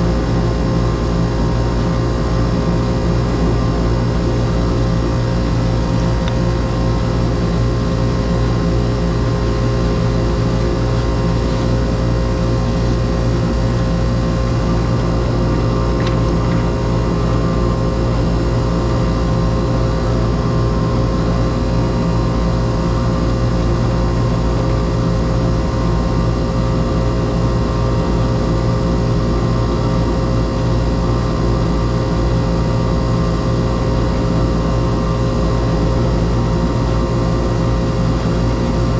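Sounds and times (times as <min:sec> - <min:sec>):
air conditioner unit humming: 0:00.0 - 0:38.9.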